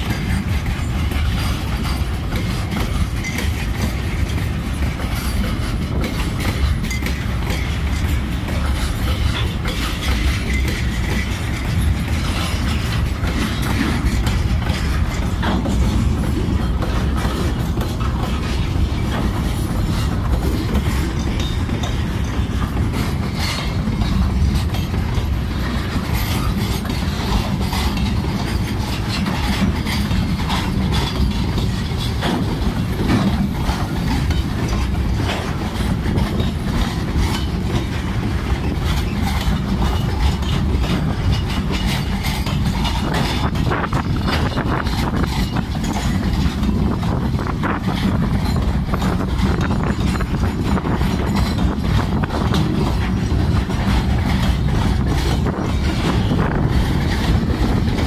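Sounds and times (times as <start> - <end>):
clicks and clanks of wheels: 0.0 - 58.0
steel wheels rumbling on rail: 0.0 - 58.0.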